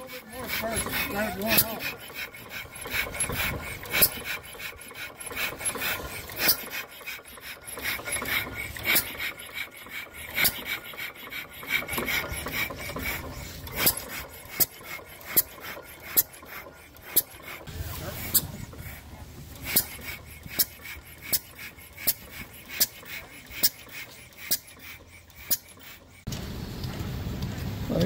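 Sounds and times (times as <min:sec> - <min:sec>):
stationary engine clattering: 0:00.0 - 0:28.0.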